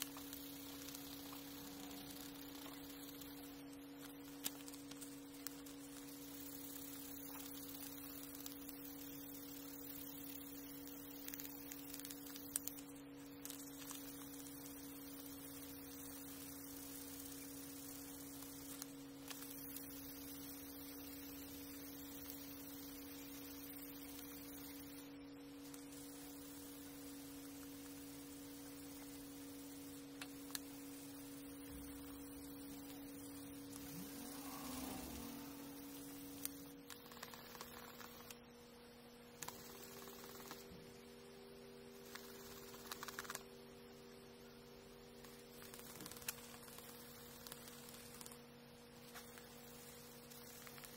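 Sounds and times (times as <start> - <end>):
two-tone electrical hum: 0.0 - 50.9.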